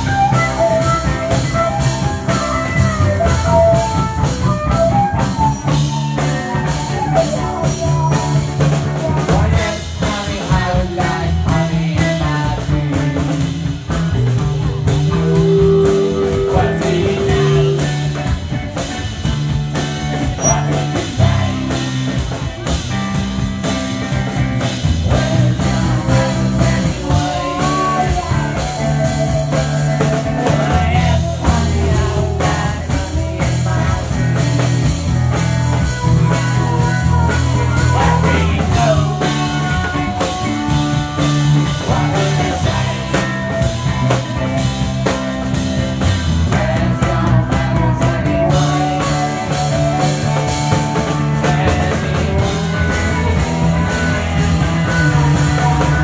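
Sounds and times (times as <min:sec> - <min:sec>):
drums: 0:00.0 - 0:56.0
electric guitar: 0:00.0 - 0:56.0
upright double bass: 0:00.0 - 0:56.0.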